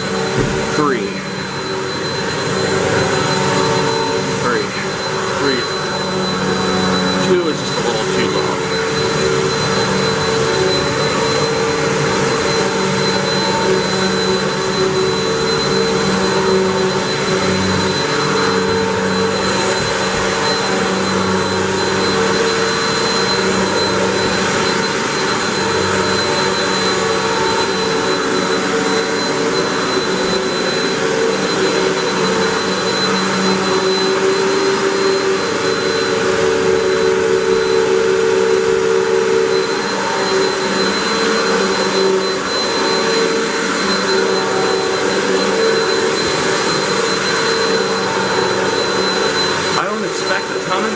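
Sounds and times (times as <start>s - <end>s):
upright vacuum running on carpet: 0.0s - 50.9s.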